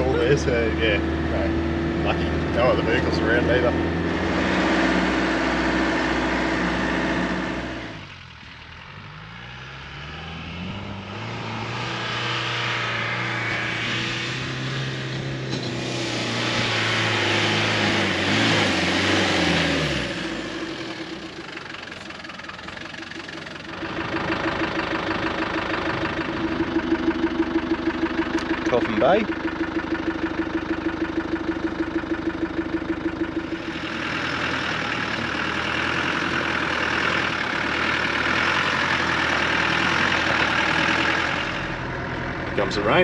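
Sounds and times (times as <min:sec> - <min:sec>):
engine revving in sand: 0:00.0 - 0:29.3, 0:33.4 - 0:43.0.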